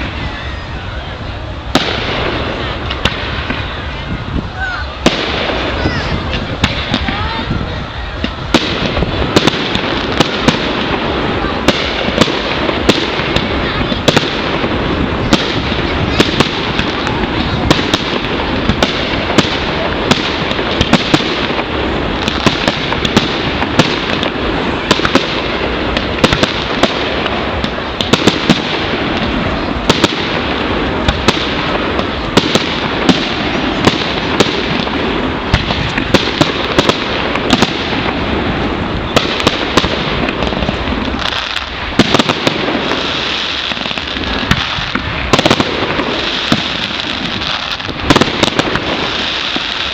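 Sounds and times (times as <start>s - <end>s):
fireworks crackling: 0.0s - 49.9s.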